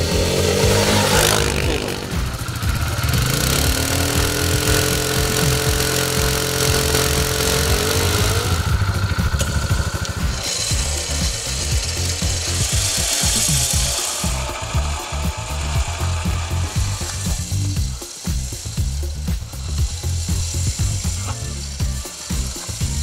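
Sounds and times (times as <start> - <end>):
electric winch running: 0.0 - 23.0
rapid irregular clicking and rubbing: 1.0 - 23.0.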